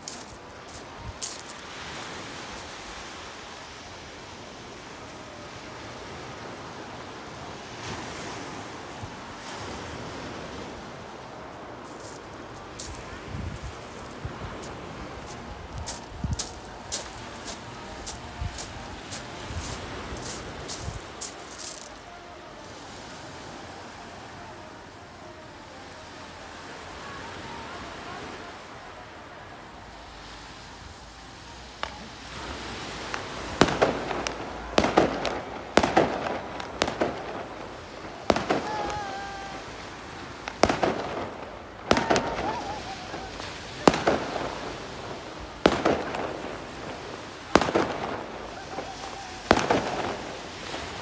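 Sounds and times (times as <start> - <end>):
distant crowd voices: 0.0 - 51.0
steady outdoor noise: 0.0 - 51.0
surf washing onto beach: 0.0 - 51.0.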